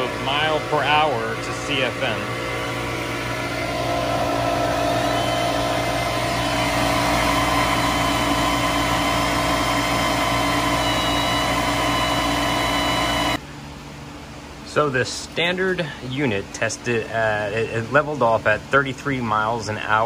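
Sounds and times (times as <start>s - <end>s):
exhaust blower drone: 0.0s - 18.1s.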